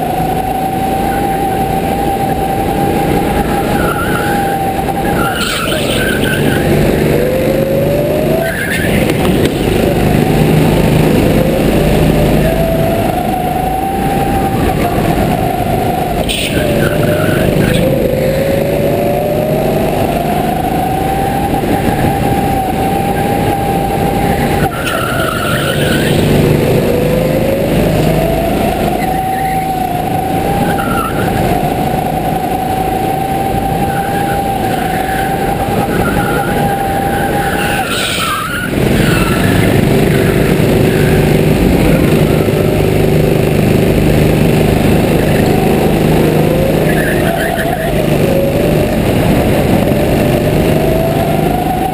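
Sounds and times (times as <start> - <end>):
go-kart motor accelerating and slowing: 0.0 - 51.9.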